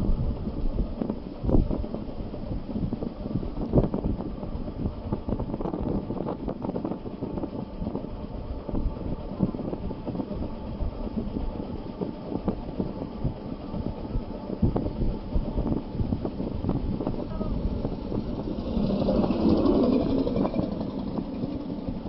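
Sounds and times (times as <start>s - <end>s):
road noise from moving vehicle: 0.0s - 22.0s
wind buffeting microphone: 0.0s - 22.0s.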